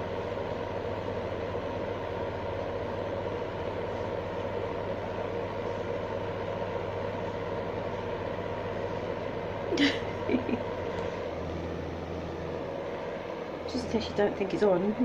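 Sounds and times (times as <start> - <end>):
fan heater whirring: 0.0 - 15.0.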